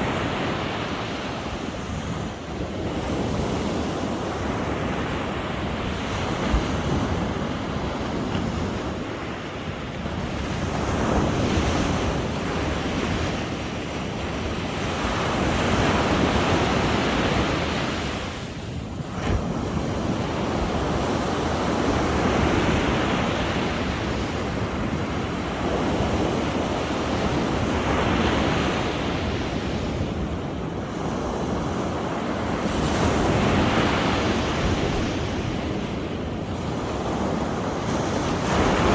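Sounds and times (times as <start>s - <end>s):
sea waves washing in: 0.0s - 38.9s.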